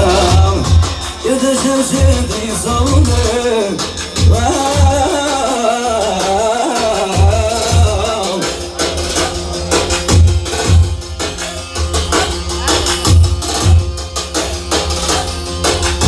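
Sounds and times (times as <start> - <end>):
heavy steady drum beat: 0.0 - 16.0.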